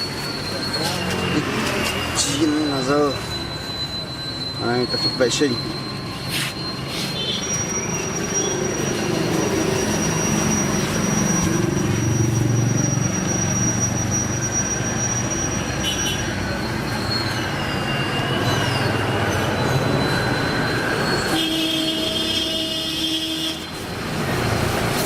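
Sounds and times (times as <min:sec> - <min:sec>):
thin high whine: 0:00.0 - 0:25.0.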